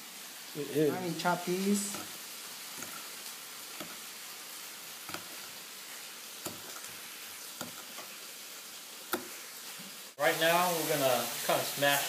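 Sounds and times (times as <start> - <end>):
food frying sizzle: 0.0 - 12.0.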